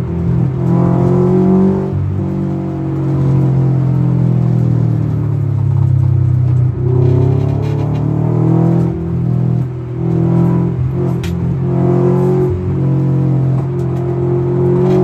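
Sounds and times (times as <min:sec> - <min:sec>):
car engine revving from cabin: 0:00.2 - 0:15.0.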